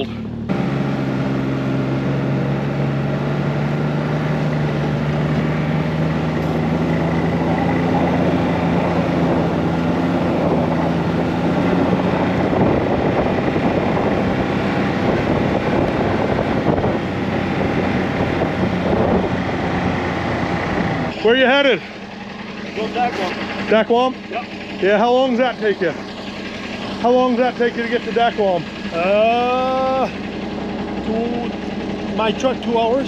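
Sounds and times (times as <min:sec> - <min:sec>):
snowmobile engine running: 0:00.0 - 0:33.0.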